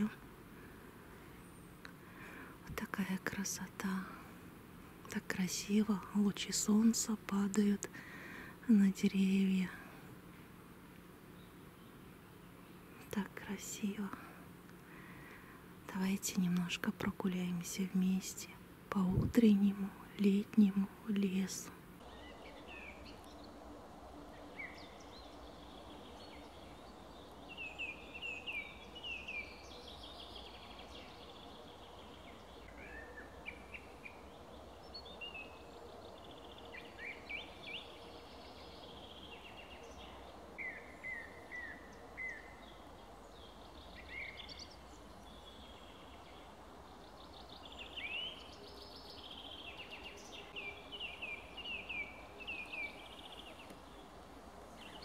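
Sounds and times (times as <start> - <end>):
faint steady hiss: 0.0 - 55.0
songbirds chirping: 0.0 - 55.0.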